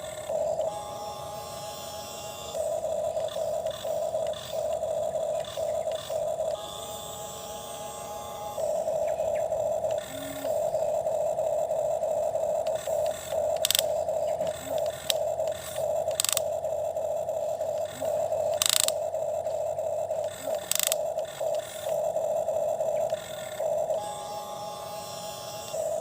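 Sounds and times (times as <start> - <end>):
toy motor and gears whirring: 0.0 - 26.0.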